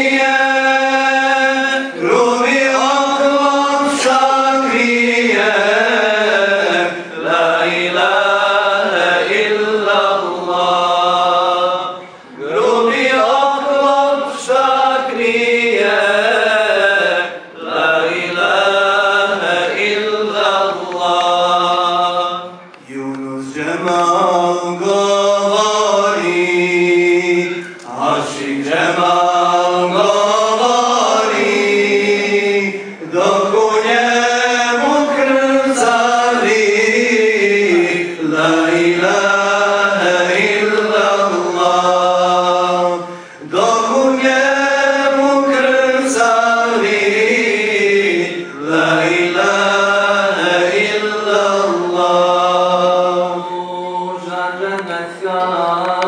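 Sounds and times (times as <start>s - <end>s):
men singing a devotional chant: 0.0s - 56.0s.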